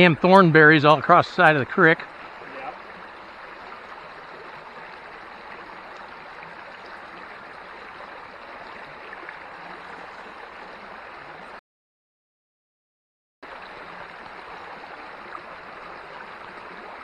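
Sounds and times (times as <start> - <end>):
creek water running: 0.0 - 11.6, 13.4 - 17.0.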